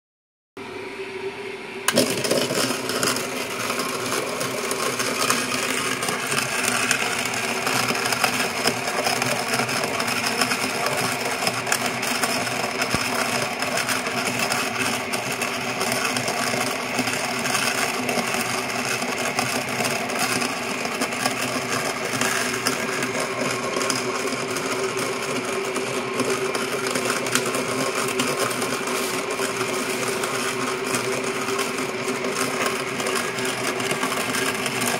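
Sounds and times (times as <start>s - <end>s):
coffee beans crushed in grinder: 1.9s - 34.9s
electric motor humming: 1.9s - 34.9s.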